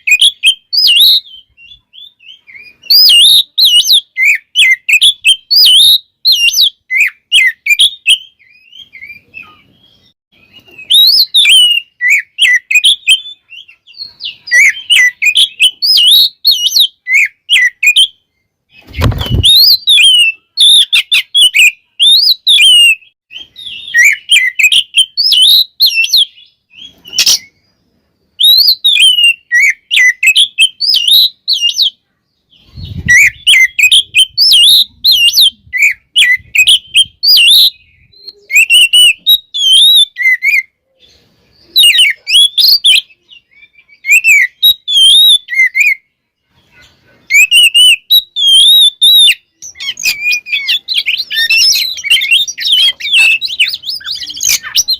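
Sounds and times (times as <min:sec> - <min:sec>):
bird singing whistled phrases: 0:00.0 - 0:27.7, 0:28.3 - 0:46.1, 0:47.3 - 0:54.9.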